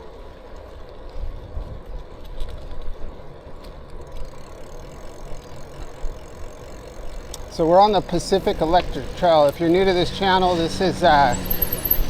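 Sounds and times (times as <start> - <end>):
bike clicking and rattling: 0.0 - 12.0
road rumble: 0.0 - 12.0
wind: 0.0 - 12.0.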